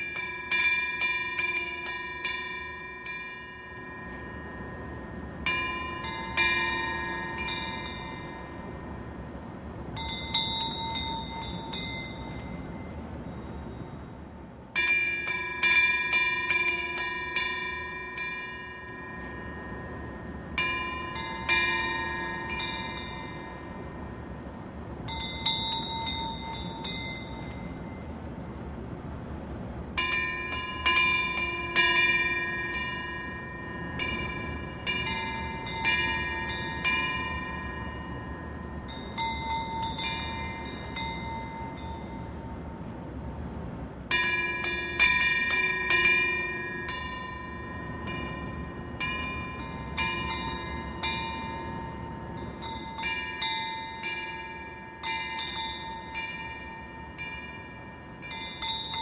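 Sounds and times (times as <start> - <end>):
wind bells clanging: 0.0 - 59.0.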